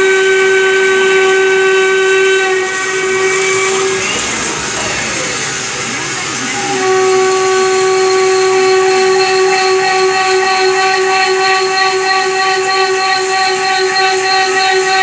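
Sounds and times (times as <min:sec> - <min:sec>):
lathe tool chattering whistle: 0:00.0 - 0:15.0.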